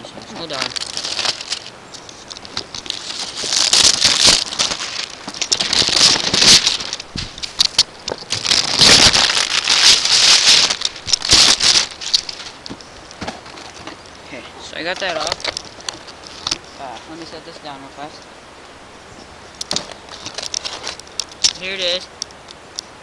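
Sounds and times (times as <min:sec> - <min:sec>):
plastic shrink wrap crinkling: 0:00.2 - 0:16.8, 0:19.6 - 0:22.0.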